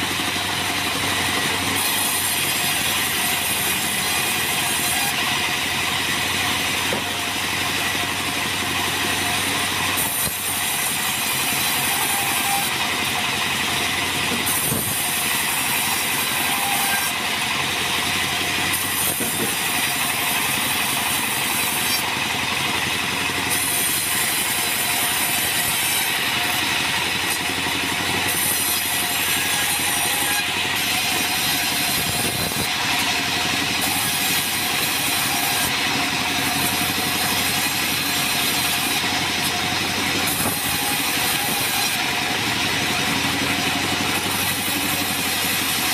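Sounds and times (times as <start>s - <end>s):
bandsaw cutting log: 0.0s - 45.9s.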